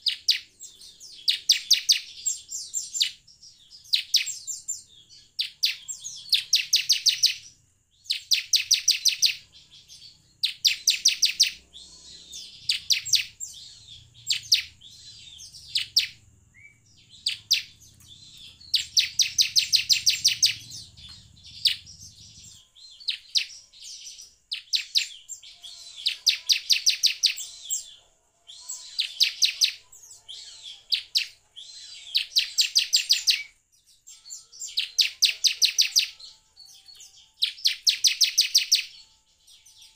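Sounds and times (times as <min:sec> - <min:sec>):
bird singing rapid high notes: 0:00.0 - 0:39.9.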